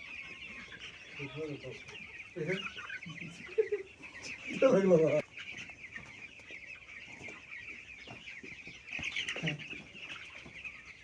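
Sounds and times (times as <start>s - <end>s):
flock of chickens cheeping: 0.0s - 11.0s.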